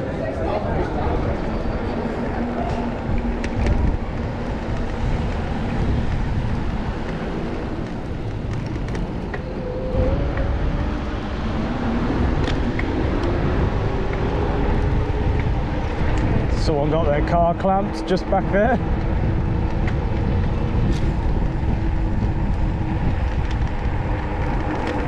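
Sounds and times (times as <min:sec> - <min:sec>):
car engines passing: 0:00.0 - 0:25.0
wind rumble on microphone: 0:00.0 - 0:25.0.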